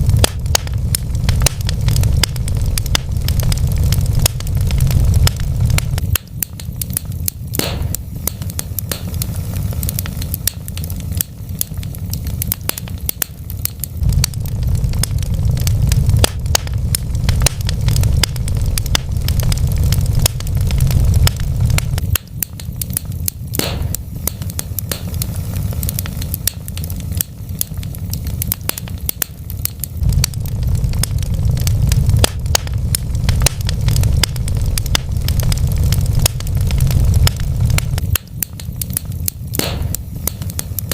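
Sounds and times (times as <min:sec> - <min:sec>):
logs crackling: 0:00.0 - 0:40.9
low rumble of flames: 0:00.0 - 0:40.9
sharp pops of burning wood: 0:00.0 - 0:40.9.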